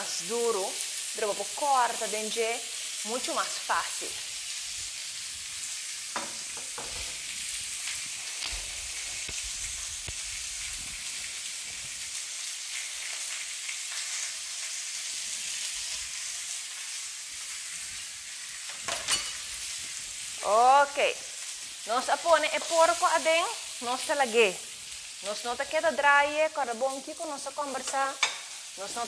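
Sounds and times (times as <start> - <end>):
pork sizzling in a wok: 0.0 - 29.0.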